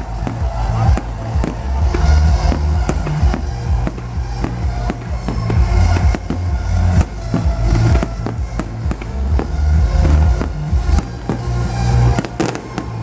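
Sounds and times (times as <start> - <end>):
electronic dance music: 0.0 - 13.0
fireworks bangs: 0.0 - 13.0.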